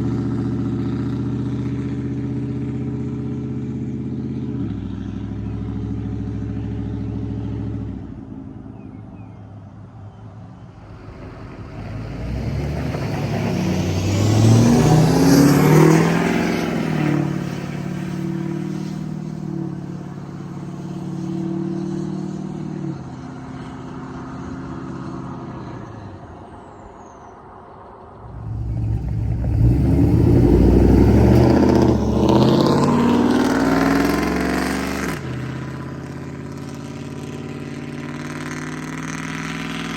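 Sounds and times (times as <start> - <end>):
truck engine accelerating hard: 0.0 - 9.6, 10.3 - 39.9.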